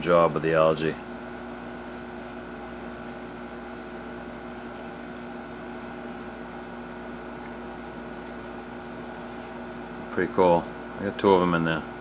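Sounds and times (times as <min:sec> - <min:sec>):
aquarium pumps humming: 0:00.0 - 0:12.0
flowing water: 0:01.8 - 0:12.0.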